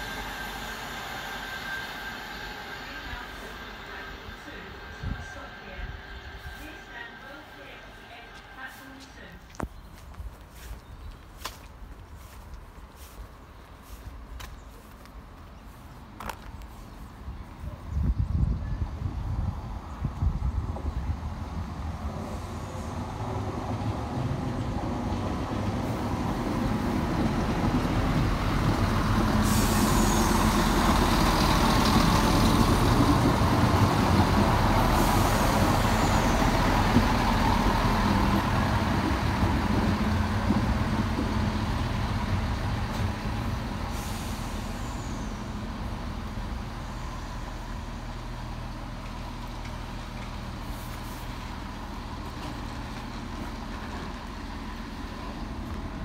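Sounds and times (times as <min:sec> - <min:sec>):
diesel train passing: 0:00.0 - 0:56.0.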